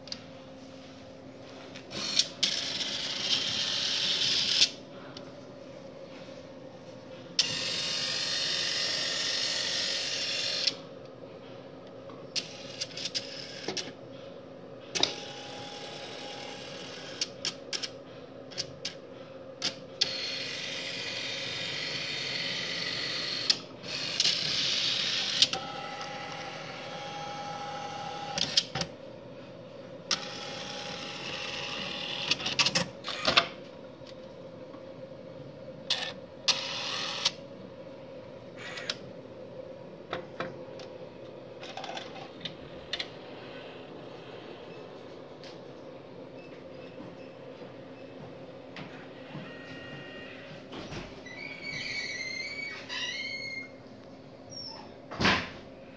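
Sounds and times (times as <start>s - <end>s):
steady low hum: 0.0s - 51.7s.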